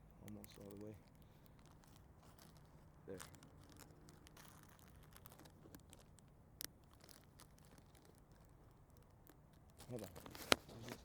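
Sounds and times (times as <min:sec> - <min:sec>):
plastic bag crinkling: 0:00.3 - 0:11.0.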